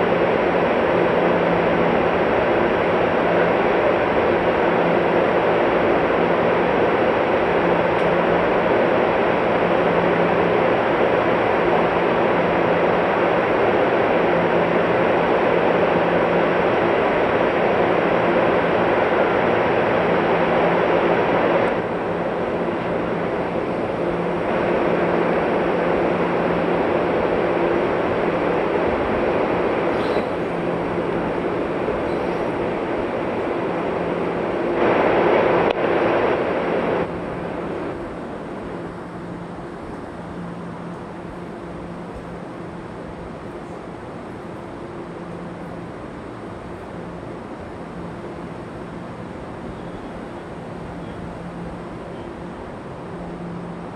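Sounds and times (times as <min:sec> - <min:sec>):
low steady drone: 0:00.0 - 0:53.9
train hum and rushing noise: 0:00.0 - 0:53.9.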